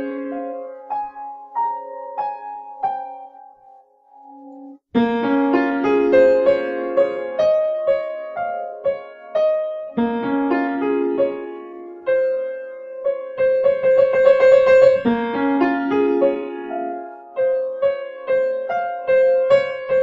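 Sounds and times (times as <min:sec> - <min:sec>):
slow piano melody: 0:00.0 - 0:20.0.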